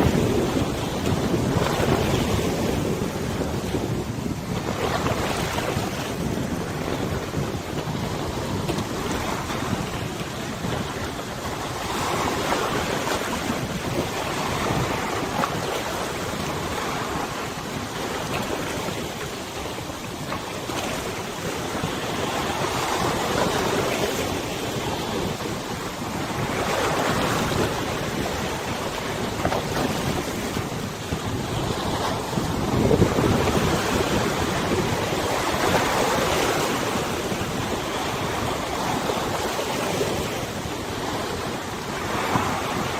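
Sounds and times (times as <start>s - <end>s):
river water washing: 0.0s - 42.9s
wind blowing across microphone: 0.0s - 42.9s.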